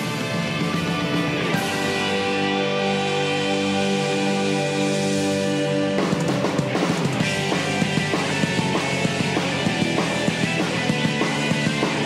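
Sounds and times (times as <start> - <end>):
rock music with guitar: 0.0 - 12.0.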